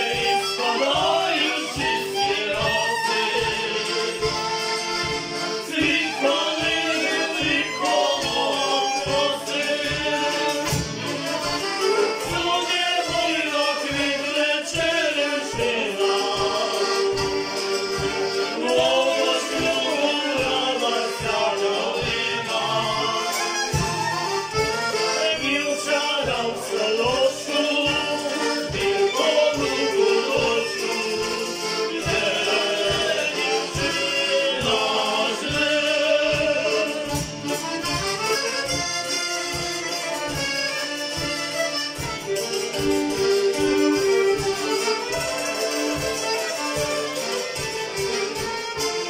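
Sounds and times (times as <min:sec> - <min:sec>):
accordion: 0:00.0 - 0:49.0
fiddle: 0:00.0 - 0:49.0
folk band playing lively tune: 0:00.0 - 0:49.0
hammered dulcimer: 0:00.0 - 0:49.0.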